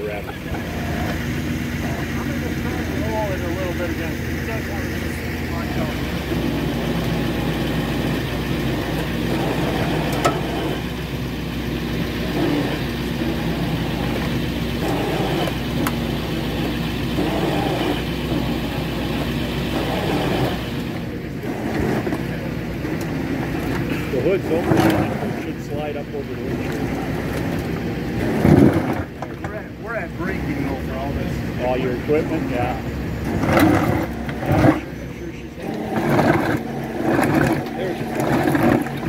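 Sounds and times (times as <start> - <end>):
truck engine running: 0.0 - 39.0
winch dragging car: 0.0 - 39.0.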